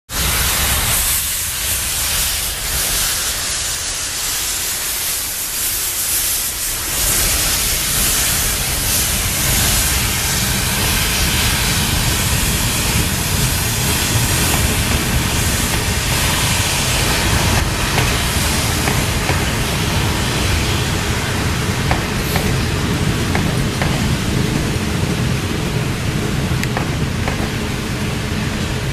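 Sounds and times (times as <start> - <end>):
steam locomotive hissing: 0.1 - 28.9.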